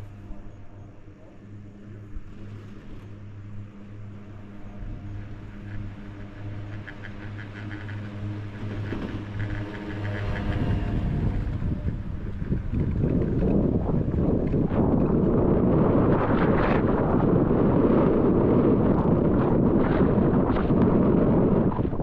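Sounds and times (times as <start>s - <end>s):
low mechanical hum: 0.0s - 22.0s
wind on microphone: 0.0s - 22.0s.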